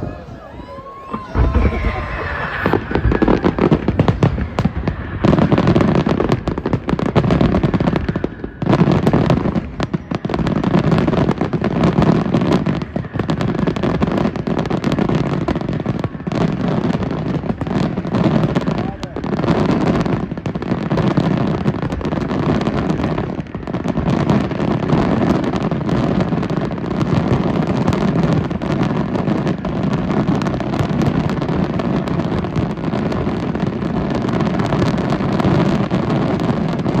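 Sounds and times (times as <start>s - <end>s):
fireworks banging and crackling: 0.0s - 37.0s.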